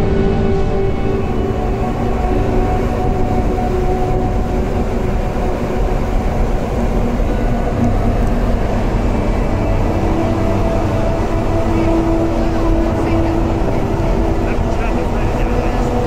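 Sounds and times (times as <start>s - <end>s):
faint even hum: 0.0s - 16.0s
loud low rumble: 0.0s - 16.0s.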